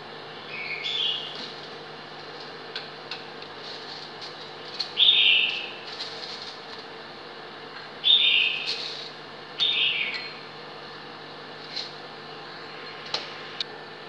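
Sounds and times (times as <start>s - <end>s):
broth boiling in a pot: 0.0s - 14.0s.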